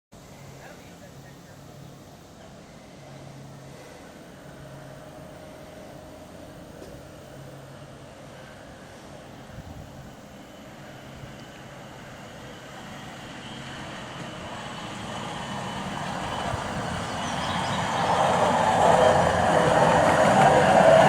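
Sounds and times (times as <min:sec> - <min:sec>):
rail truck running on rails: 0:00.2 - 0:21.0.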